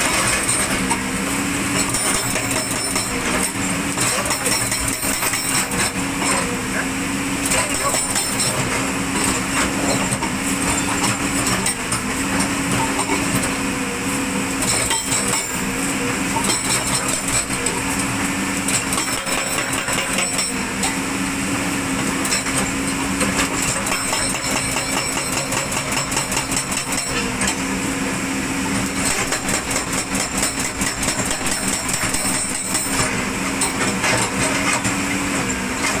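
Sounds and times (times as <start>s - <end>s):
hydraulic breaker hammering stone: 0.0s - 21.1s, 21.9s - 27.9s, 28.7s - 36.0s.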